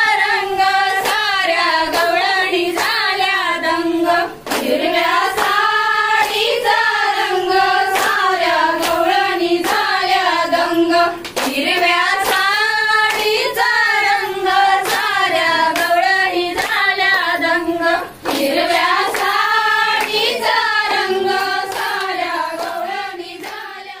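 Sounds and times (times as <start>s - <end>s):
group of women singing: 0.0s - 24.0s
hand claps: 0.0s - 24.0s.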